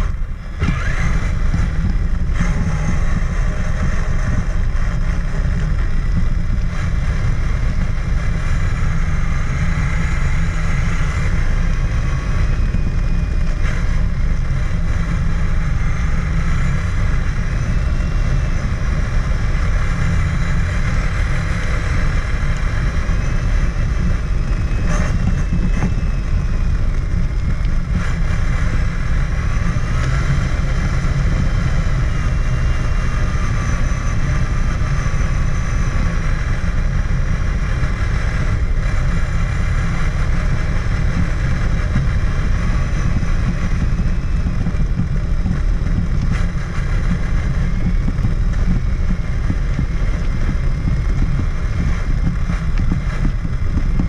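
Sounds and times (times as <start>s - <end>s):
electric motor and gears whining: 0.0s - 54.0s
wind and terrain rumble: 0.0s - 54.0s.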